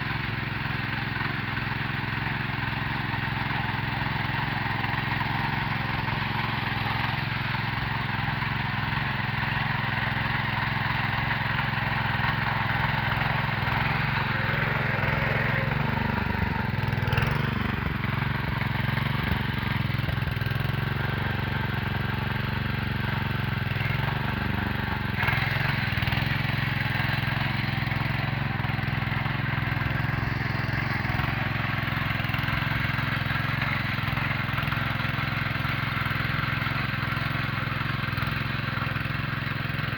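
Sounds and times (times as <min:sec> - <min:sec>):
rotary tiller engine running: 0:00.0 - 0:39.9.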